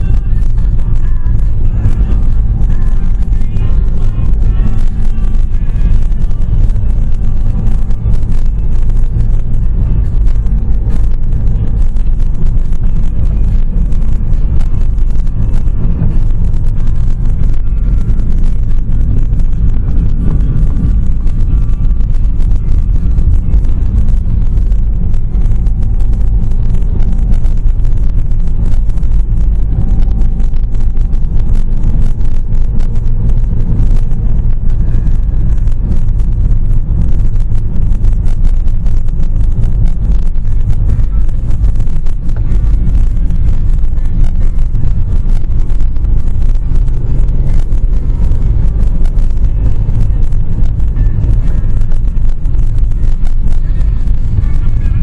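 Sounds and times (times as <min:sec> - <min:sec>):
car engine and tyre rumble: 0:00.0 - 0:55.0
wind noise on microphone: 0:00.0 - 0:55.0.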